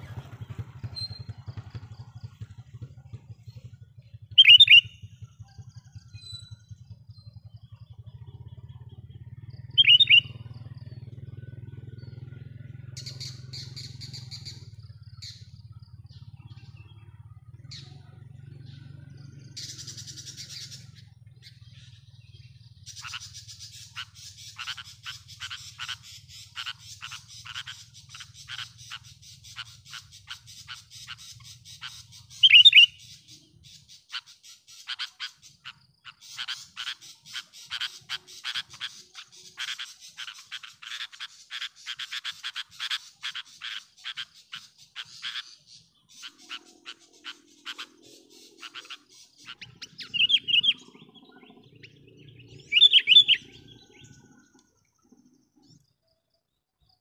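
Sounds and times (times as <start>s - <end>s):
quick repeated bird notes: 0.0s - 8.4s, 9.6s - 10.8s, 12.9s - 16.7s, 22.8s - 55.8s
bird calling: 0.0s - 57.0s
soft bird chirps: 0.0s - 57.0s.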